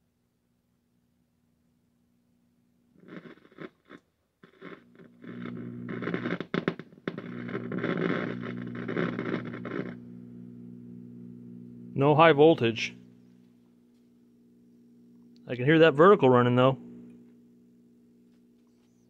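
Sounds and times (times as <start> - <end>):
low steady buzz: 0.0 - 3.3, 4.2 - 19.0
crackling hissing tv static: 2.9 - 19.0.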